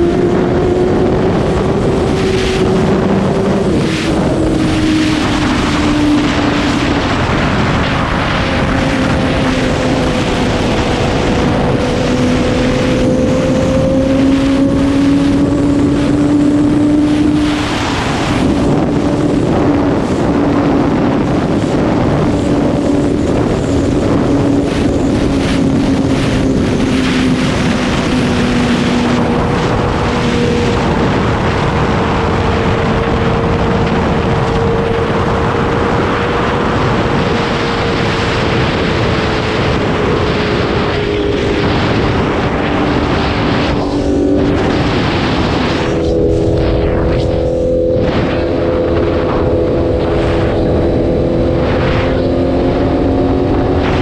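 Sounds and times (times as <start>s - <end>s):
motorcycle engine cruising: 0.0s - 54.0s
wind rush on microphone: 0.0s - 54.0s.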